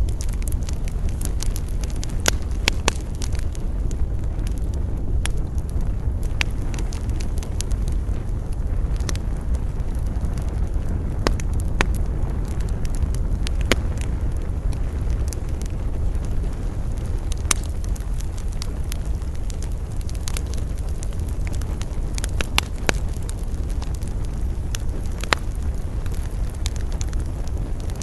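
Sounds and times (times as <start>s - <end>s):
burning wood popping: 0.0s - 28.0s
campfire crackling: 0.0s - 28.0s
low wind rumble: 0.0s - 28.0s.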